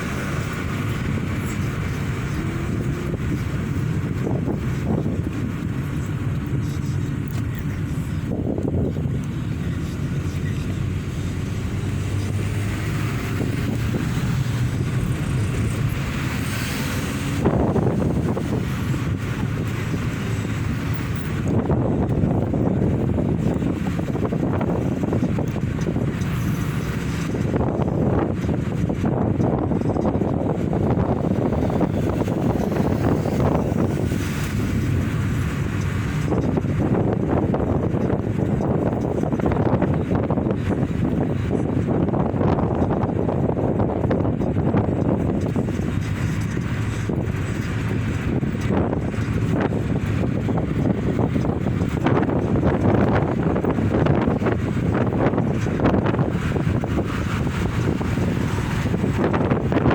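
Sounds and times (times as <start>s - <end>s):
engine and tyre rumble: 0.0s - 59.9s
road and wind hiss: 0.0s - 59.9s.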